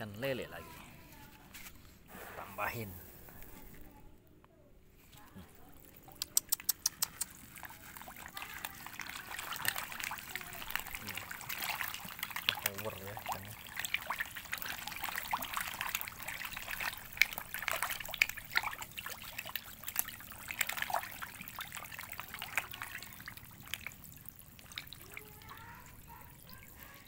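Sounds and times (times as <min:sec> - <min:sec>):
fish splashing at water surface: 0:02.1 - 0:03.9, 0:05.4 - 0:27.0.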